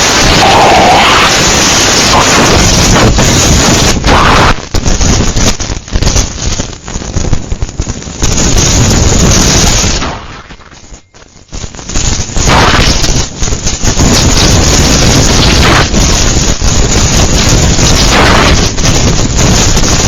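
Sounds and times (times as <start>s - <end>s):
strong wind gusts on microphone: 0.0s - 10.6s, 11.7s - 20.0s.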